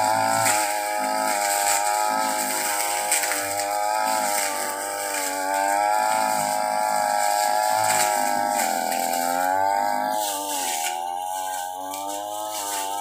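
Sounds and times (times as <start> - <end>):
brush cutter engine at high revs: 0.0 - 13.0.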